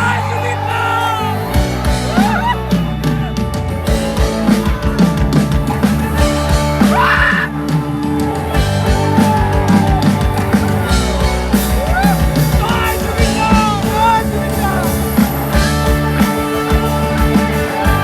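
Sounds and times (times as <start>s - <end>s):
loud band music over loudspeakers: 0.0s - 18.0s.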